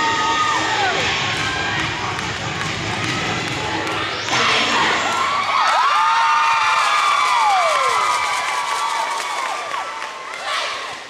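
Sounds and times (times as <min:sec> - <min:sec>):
crowd cheering: 0:00.0 - 0:11.0.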